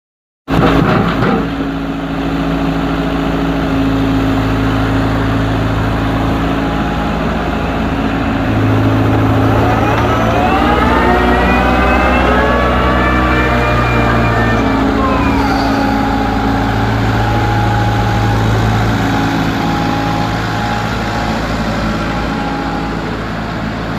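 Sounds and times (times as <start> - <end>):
excavator diesel engine: 0.5 - 23.9
rising whine: 2.6 - 23.9.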